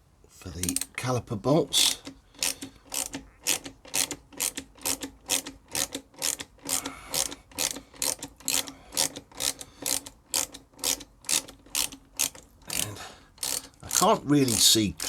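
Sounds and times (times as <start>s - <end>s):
socket ratchet clicking: 0.6s - 1.0s, 1.8s - 15.0s.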